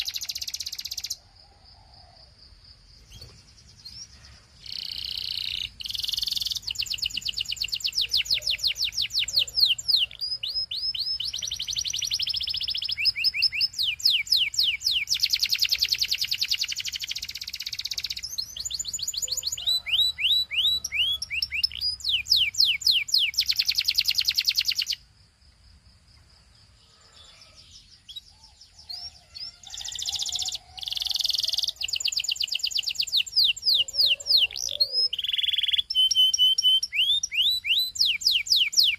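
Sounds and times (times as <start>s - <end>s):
canary singing trills: 0.0s - 2.3s, 3.0s - 25.1s, 26.8s - 38.9s.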